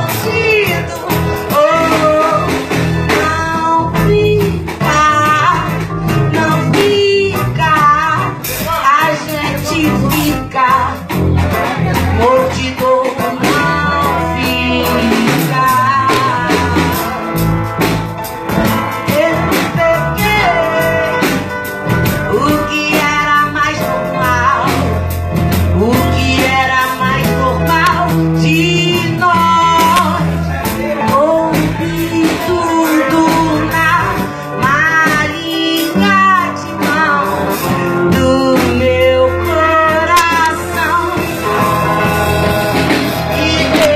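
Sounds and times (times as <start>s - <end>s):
guitar bass and drums: 0.0s - 43.9s
person singing: 0.0s - 43.9s.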